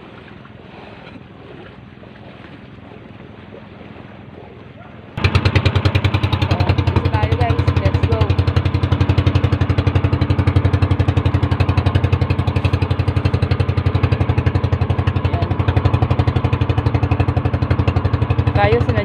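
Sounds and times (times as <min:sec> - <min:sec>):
boat engine thumping: 0:00.0 - 0:19.0.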